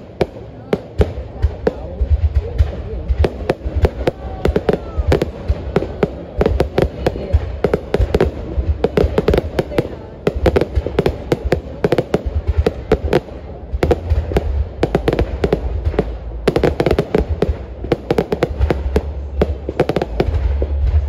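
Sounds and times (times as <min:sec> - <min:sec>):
deep booming: 0:00.0 - 0:21.0
fireworks bursting with sharp bangs: 0:00.0 - 0:21.0.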